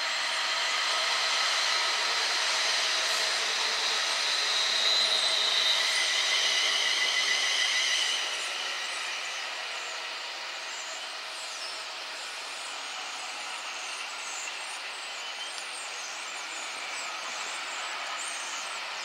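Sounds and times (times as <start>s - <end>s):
rumble of train wheels on rail: 0.4s - 19.0s.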